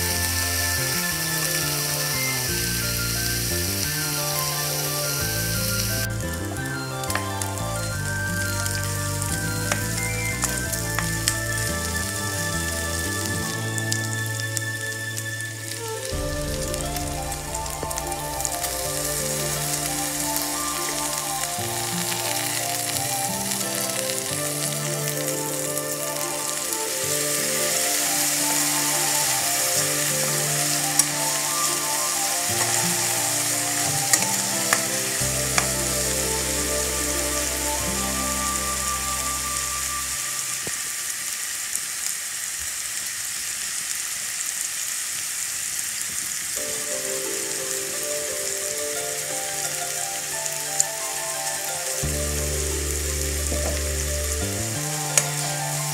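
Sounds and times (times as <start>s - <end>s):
meat sizzling in a pan: 0.0s - 6.0s, 6.6s - 55.9s
background music: 0.0s - 40.9s, 46.6s - 55.9s.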